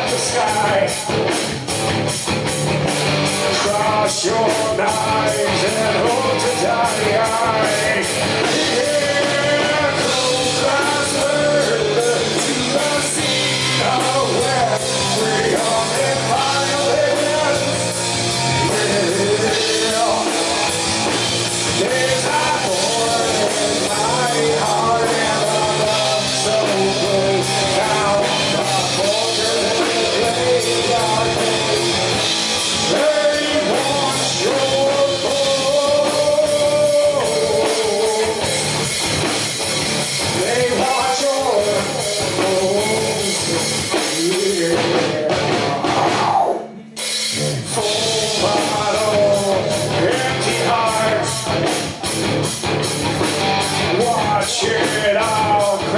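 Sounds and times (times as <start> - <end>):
bass guitar: 0.0 - 55.9
drum kit: 0.0 - 55.9
electric guitars: 0.0 - 55.9.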